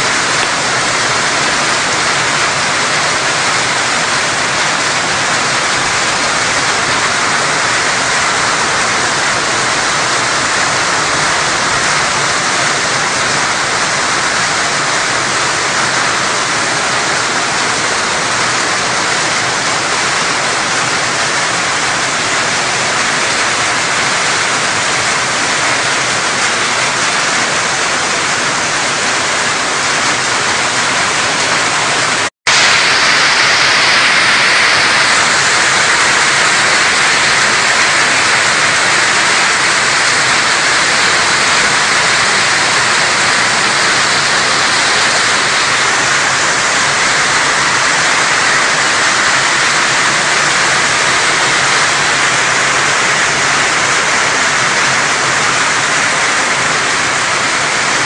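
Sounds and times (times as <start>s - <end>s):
torrential rain on pavement: 0.0s - 58.0s.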